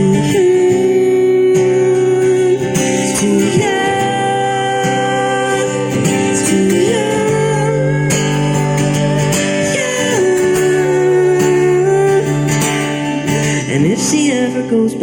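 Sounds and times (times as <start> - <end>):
guitar accompaniment: 0.0 - 15.0.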